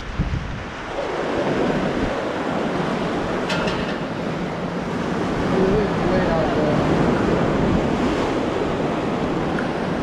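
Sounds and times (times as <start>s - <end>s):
surf breaking against pier: 0.0s - 10.0s
wind buffeting microphone: 0.0s - 10.0s.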